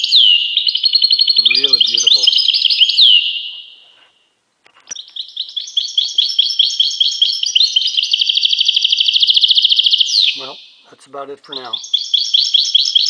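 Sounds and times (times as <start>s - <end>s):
finch singing trill: 0.0s - 4.0s, 4.9s - 13.0s.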